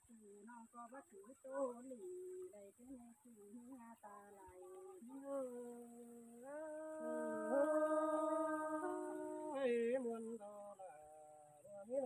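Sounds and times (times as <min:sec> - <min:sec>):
elderly woman singing unaccompanied: 0:00.0 - 0:12.0.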